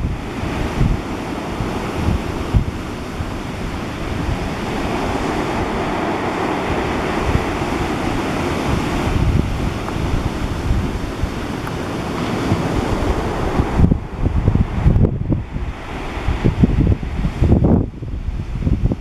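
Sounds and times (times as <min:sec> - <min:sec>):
waves washing and breaking: 0:00.0 - 0:19.0
wind buffeting microphone: 0:00.0 - 0:19.0.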